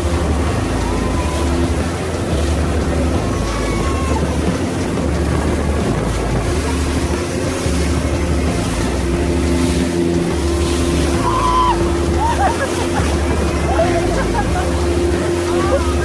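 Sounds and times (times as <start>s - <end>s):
boat motor running: 0.0s - 16.0s
wake water rushing: 0.0s - 16.0s
wind buffeting microphone: 0.0s - 16.0s.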